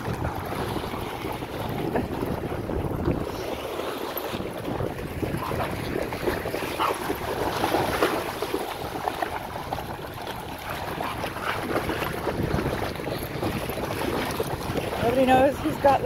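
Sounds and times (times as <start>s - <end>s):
dogs splashing through water: 0.0s - 16.0s
wind buffeting microphone: 0.0s - 16.0s.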